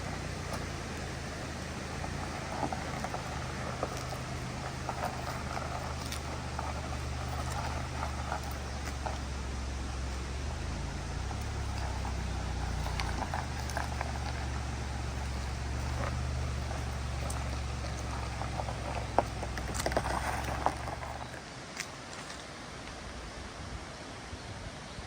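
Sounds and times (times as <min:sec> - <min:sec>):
car engine humming: 0:00.0 - 0:23.6.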